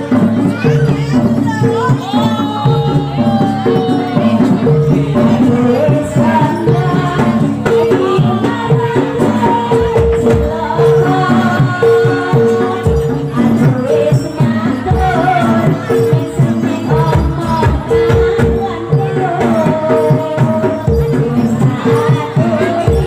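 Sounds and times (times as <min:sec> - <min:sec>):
drum strokes: 0:00.0 - 0:23.0
pitched percussion notes: 0:00.0 - 0:23.0.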